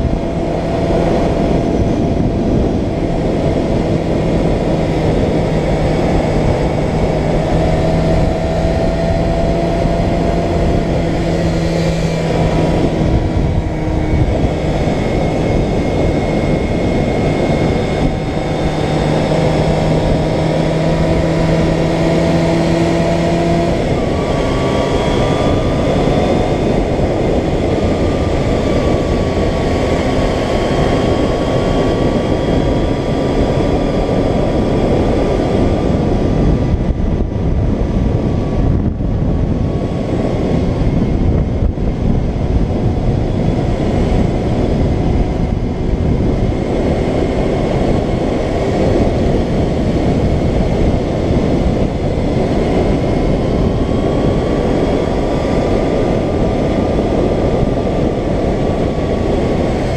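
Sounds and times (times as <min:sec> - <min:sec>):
motorcycle engine running: 0:00.0 - 0:59.9
wind rush: 0:00.0 - 0:59.9.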